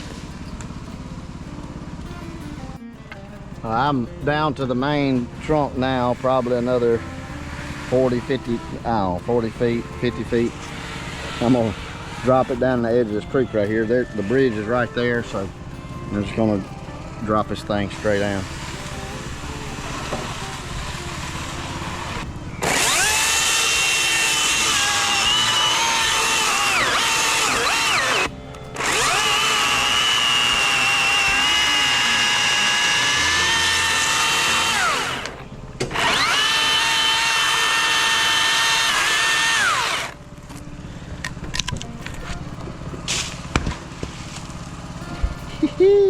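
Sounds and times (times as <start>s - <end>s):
chainsaw cutting wood: 3.7s - 45.8s.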